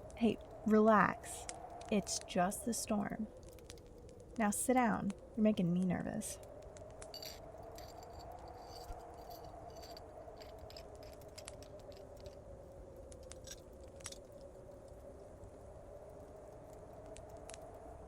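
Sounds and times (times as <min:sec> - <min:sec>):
storm wind howling: 0:00.0 - 0:18.0
wood fire crackling and popping: 0:00.0 - 0:18.0.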